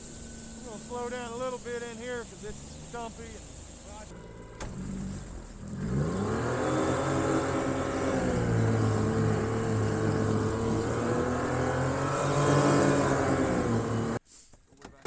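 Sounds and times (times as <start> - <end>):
boat motor running: 0.0 - 14.2.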